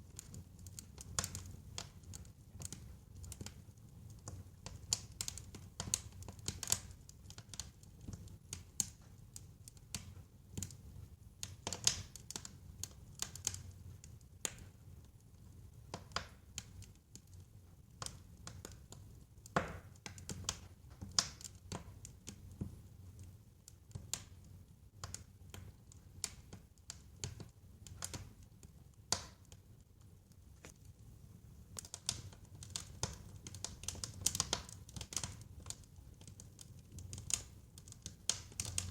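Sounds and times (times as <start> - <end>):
low rumble of burning logs: 0.0 - 38.9
wood fire crackling and popping: 0.0 - 38.9.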